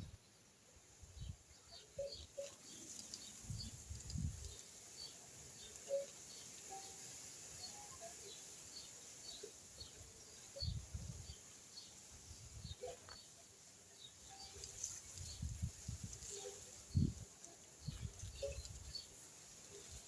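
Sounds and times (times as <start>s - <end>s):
small birds chirping: 1.0s - 20.0s
steady high hiss: 1.9s - 20.0s.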